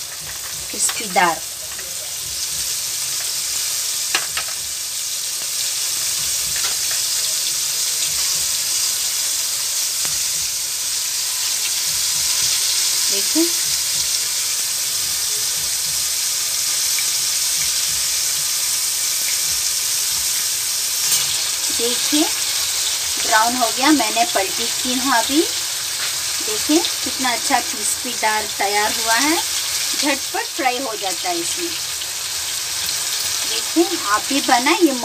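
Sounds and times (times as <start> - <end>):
fish sizzling in oil: 0.0 - 35.0.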